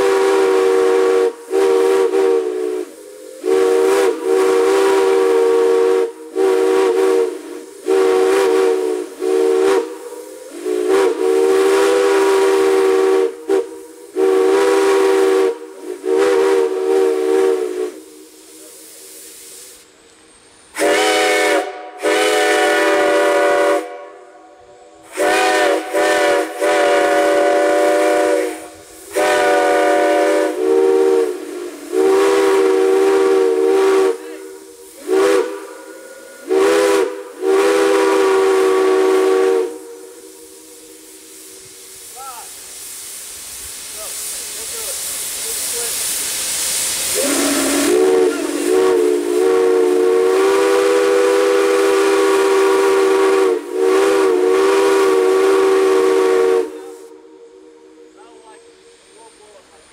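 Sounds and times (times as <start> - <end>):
steam whistle blasts: 0.0 - 43.2, 44.0 - 59.6
steam hissing: 0.0 - 59.9.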